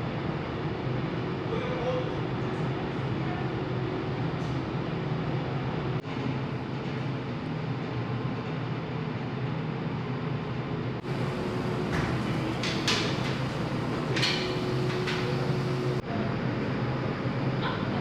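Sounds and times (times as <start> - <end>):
ship engine and ventilation hum: 0.0 - 16.2.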